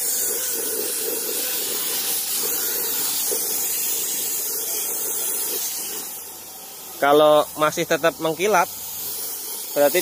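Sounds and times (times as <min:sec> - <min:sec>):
air spray gun hissing: 0:00.0 - 0:10.0.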